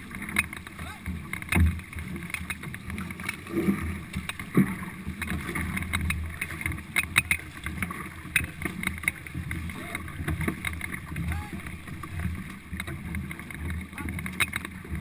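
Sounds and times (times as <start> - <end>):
canoe paddles splashing: 0.0 - 15.0
water rushing along hull: 0.0 - 15.0.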